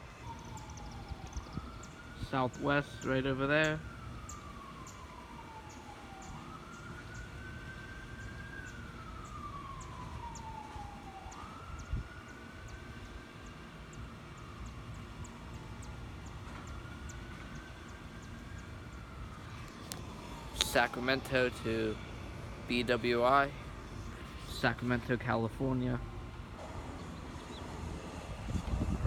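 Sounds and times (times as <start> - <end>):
distant siren wailing: 0.0 - 29.0.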